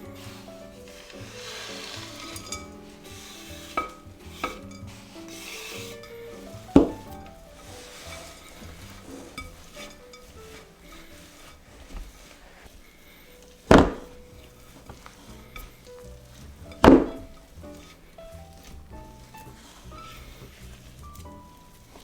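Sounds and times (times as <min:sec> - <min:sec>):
soft background music: 0:00.0 - 0:22.0
utensil scraping dough in bowl: 0:00.0 - 0:22.0.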